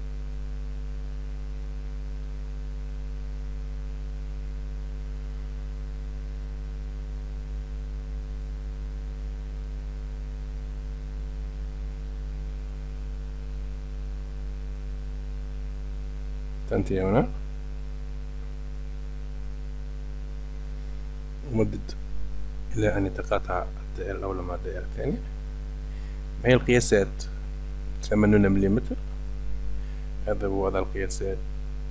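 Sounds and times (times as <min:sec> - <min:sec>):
electrical mains hum: 0:00.0 - 0:31.9.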